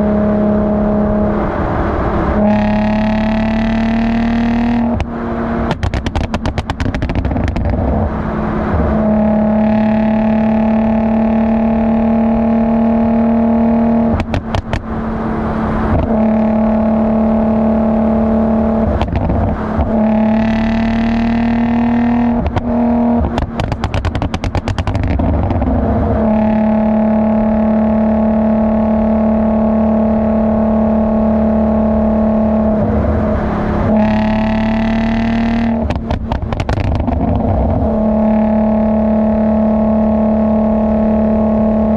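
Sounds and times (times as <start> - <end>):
car exhaust droning: 0.0 - 41.9
exhaust crackling and popping: 2.3 - 31.2, 32.0 - 41.9.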